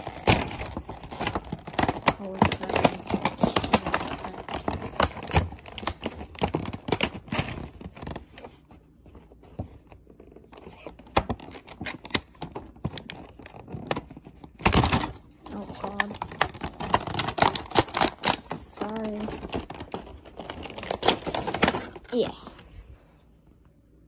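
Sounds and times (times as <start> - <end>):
plastic packaging crinkling and tearing: 0.0 - 8.9, 9.8 - 22.6.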